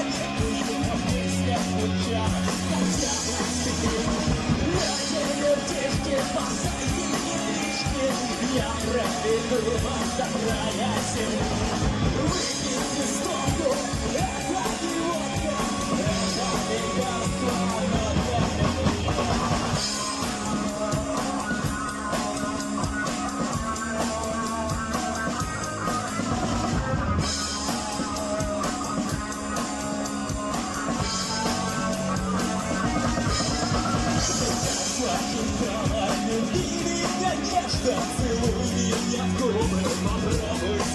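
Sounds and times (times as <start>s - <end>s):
person singing: 0.0s - 40.9s
rock music: 0.0s - 40.9s.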